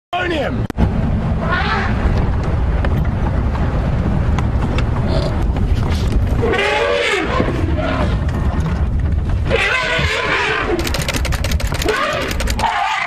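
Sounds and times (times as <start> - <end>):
vehicle engine rumbling: 0.2 - 13.0.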